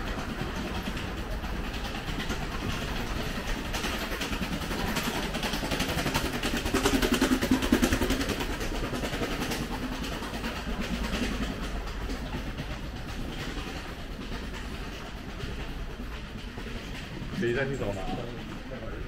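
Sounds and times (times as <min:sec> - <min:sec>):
rapid wheel clacks: 0:00.0 - 0:19.0
train on elevated railway: 0:00.0 - 0:19.0.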